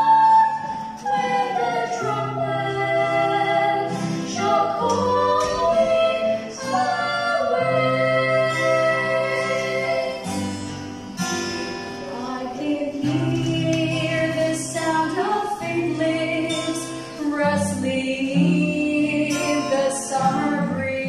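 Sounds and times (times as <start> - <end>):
women singing: 0.0 - 10.9, 12.0 - 21.0
acoustic guitar: 0.0 - 21.0.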